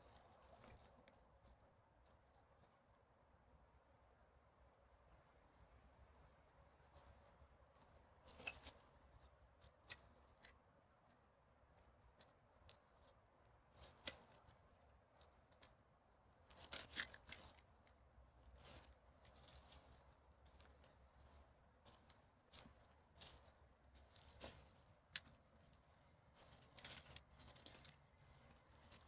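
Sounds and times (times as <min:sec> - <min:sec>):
faint crackling and rustling: 0:00.0 - 0:03.1, 0:06.1 - 0:29.0.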